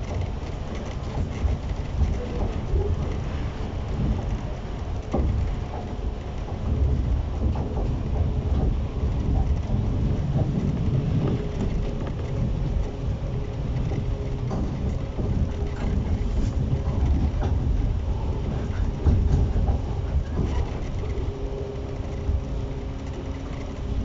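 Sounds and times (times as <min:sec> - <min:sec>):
faint constant hum: 0:00.0 - 0:24.0
train low rumble: 0:00.0 - 0:24.0.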